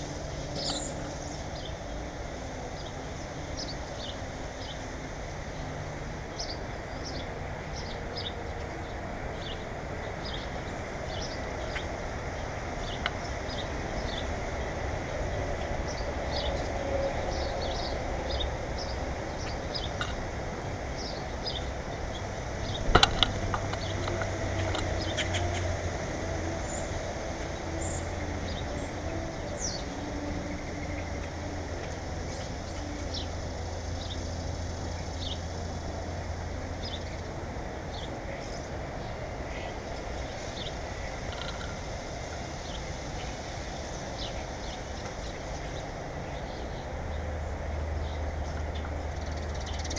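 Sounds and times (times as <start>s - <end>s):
small birds chirping: 0.0s - 2.0s, 2.7s - 35.5s, 36.8s - 49.9s
steady low rumble: 0.0s - 49.9s.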